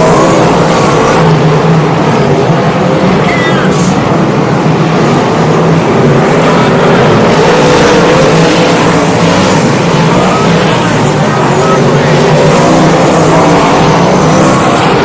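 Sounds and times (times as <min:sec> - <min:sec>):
racing car engines: 0:00.0 - 0:15.0.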